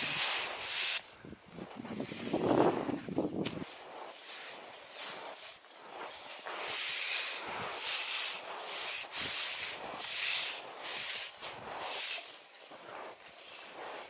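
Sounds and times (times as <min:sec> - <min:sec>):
skis sliding over snow: 0:00.0 - 0:14.0.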